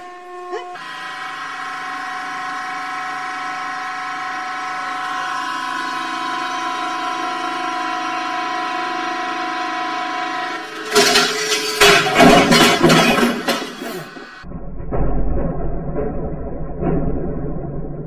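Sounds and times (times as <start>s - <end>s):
hydraulic pump whine: 0.0s - 14.5s.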